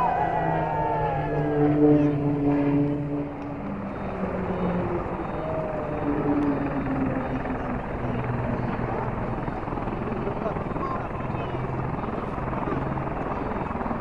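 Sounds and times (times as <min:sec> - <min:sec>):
aircraft engine drone overhead: 0:00.0 - 0:14.0.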